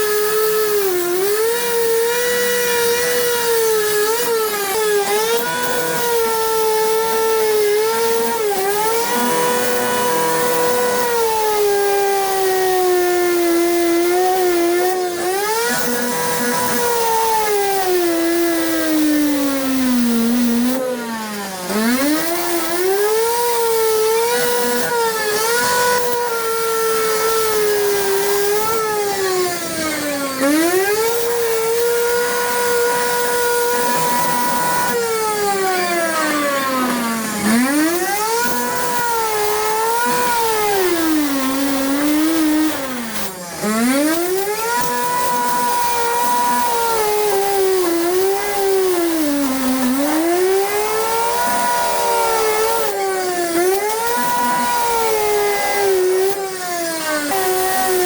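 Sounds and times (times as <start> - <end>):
power tool motor whining: 0.0 - 58.0.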